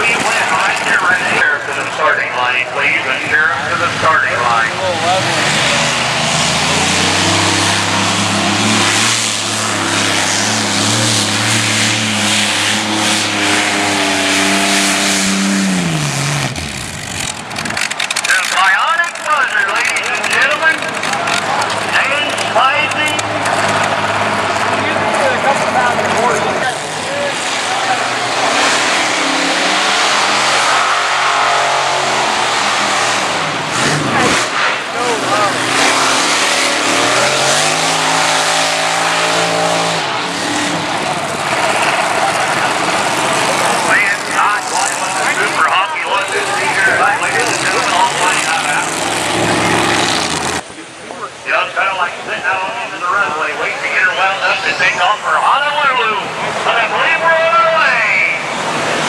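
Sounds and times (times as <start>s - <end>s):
tractor engines running flat out: 0.0s - 59.0s.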